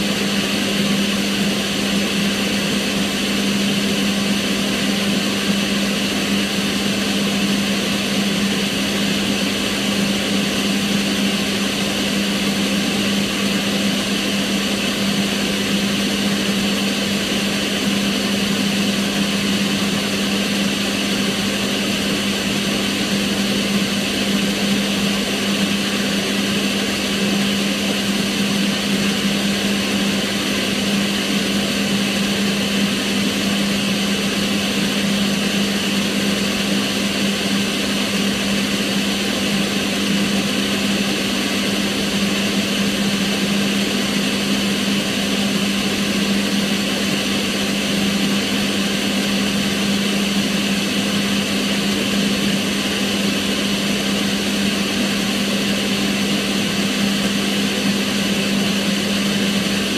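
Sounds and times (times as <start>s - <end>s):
extractor fan running: 0.0s - 59.9s.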